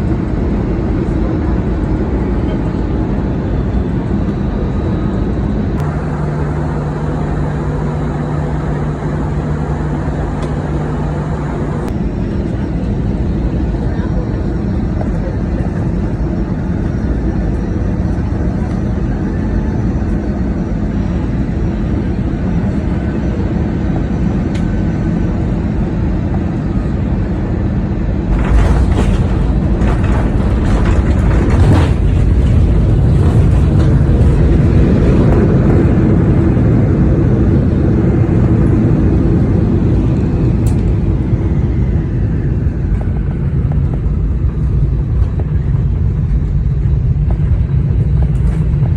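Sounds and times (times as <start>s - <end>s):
vehicle rumble: 0.0s - 18.8s, 27.9s - 48.9s.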